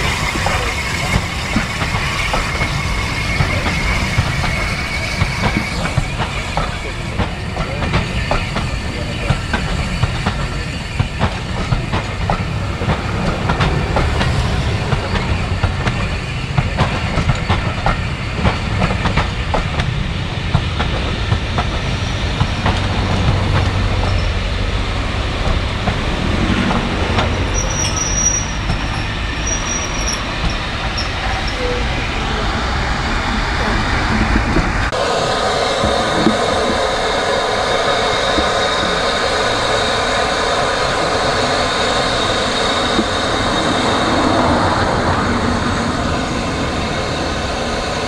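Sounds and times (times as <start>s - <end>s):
train rolling past: 0.0s - 48.0s.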